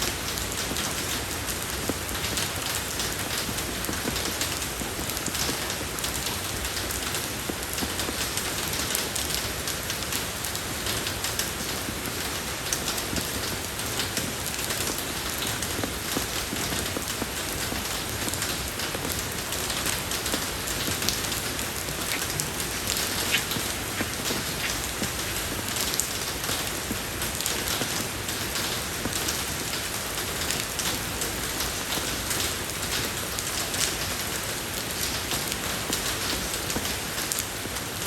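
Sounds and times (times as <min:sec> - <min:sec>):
rain on a road: 0:00.0 - 0:38.0.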